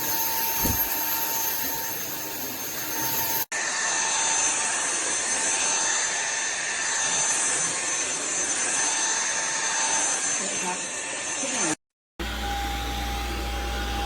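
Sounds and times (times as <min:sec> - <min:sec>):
vacuum cleaner motor running: 0:00.0 - 0:14.0.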